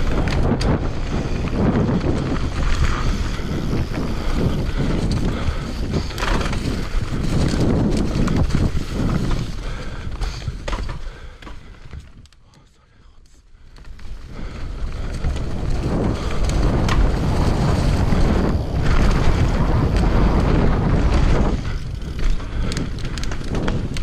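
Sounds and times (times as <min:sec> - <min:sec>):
wind on microphone: 0:00.0 - 0:11.0, 0:14.2 - 0:24.0
bike frame rattling: 0:00.0 - 0:12.3, 0:13.6 - 0:24.0
bike tyre roar over dirt: 0:00.0 - 0:12.3, 0:13.6 - 0:24.0.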